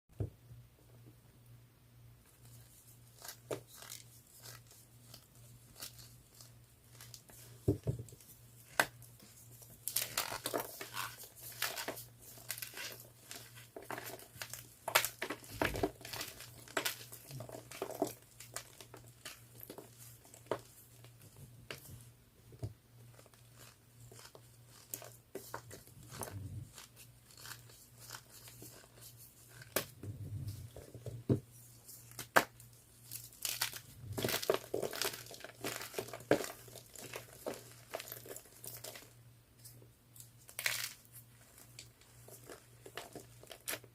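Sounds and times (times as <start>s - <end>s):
chalk crunching and crackling: 2.4s - 21.1s, 23.1s - 30.8s, 31.5s - 43.9s.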